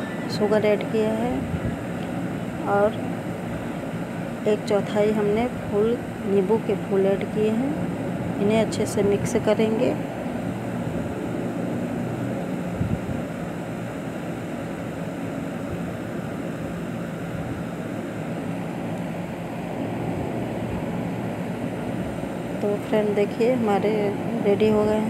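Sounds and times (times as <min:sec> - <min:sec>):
mechanical hum and whir: 0:00.0 - 0:25.0.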